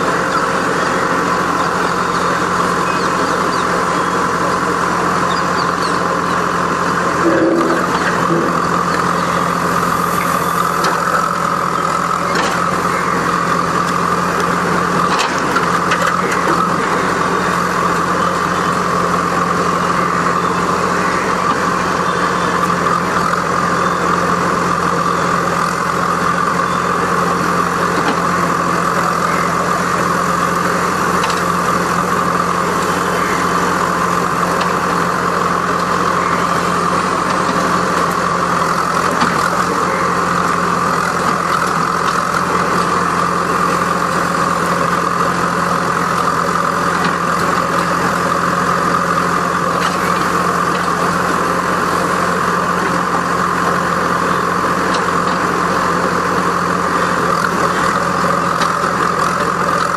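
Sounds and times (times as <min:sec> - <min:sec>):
crane diesel engine droning: 0:00.0 - 0:59.9.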